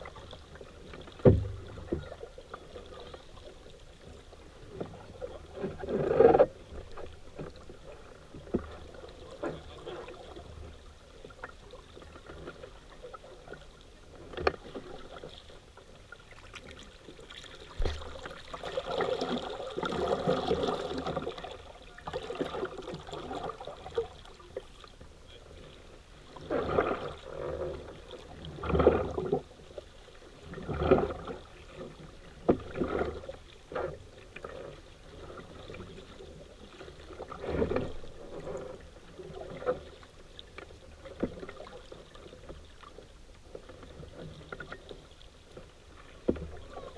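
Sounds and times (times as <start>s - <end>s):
paddle strokes in water: 0.0s - 46.9s.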